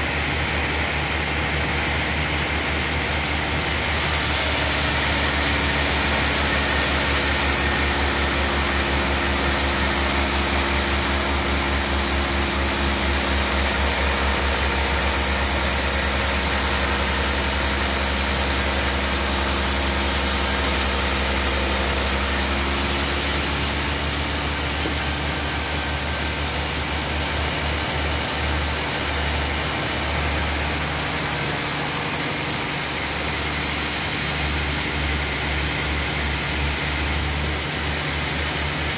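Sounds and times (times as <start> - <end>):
bandsaw cutting wood: 2.7 - 38.9.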